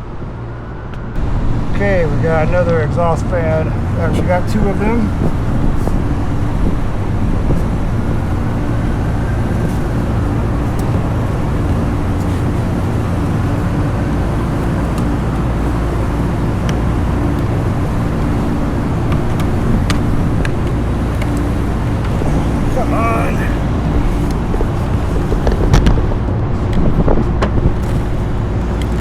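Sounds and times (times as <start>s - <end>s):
ventilation machinery humming: 0.0s - 29.0s.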